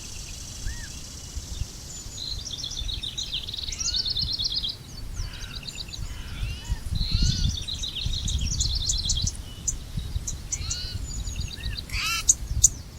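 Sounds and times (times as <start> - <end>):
songbirds singing: 0.0 - 12.9.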